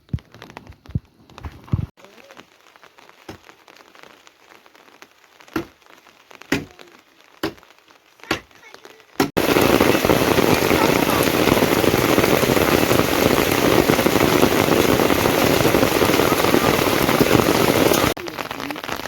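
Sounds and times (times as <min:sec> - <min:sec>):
heavy rain: 0:01.8 - 0:19.0.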